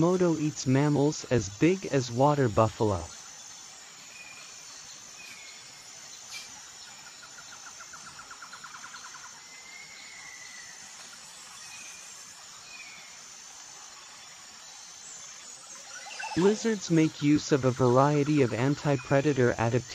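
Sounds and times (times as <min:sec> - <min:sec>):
insects chirring: 0:00.0 - 0:19.9.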